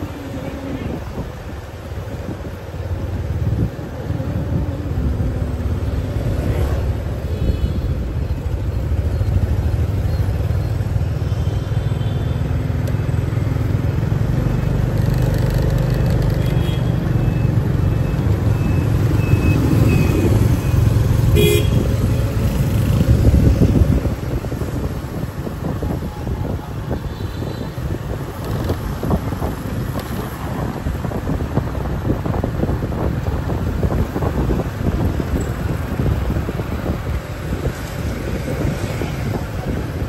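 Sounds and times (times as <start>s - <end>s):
traffic engines and road noise: 0.0s - 40.0s.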